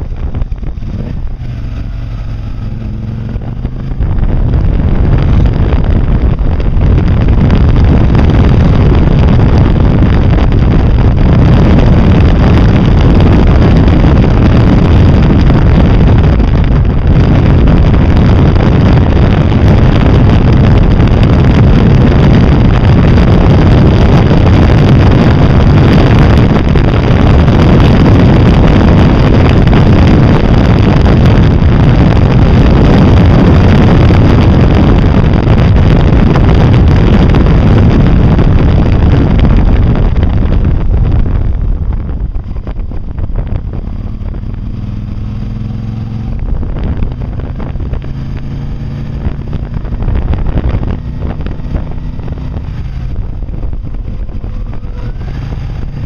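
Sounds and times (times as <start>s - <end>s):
engine running: 0.0s - 56.0s
wind buffeting microphone: 0.0s - 56.0s.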